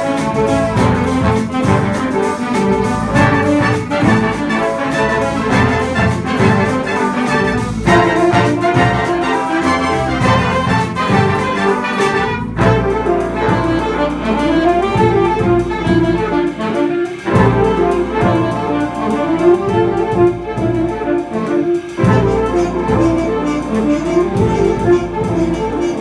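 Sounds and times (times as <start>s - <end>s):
jazz ensemble playing: 0.0s - 26.0s.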